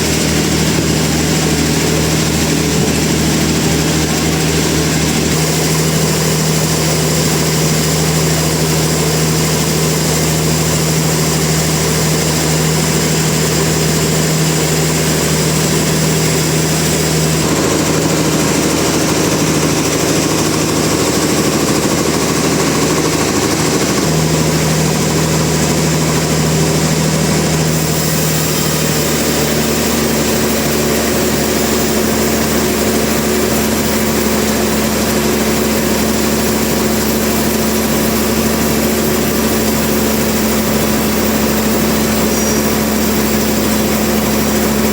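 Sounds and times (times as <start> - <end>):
sawmill engine humming: 0.0 - 44.9.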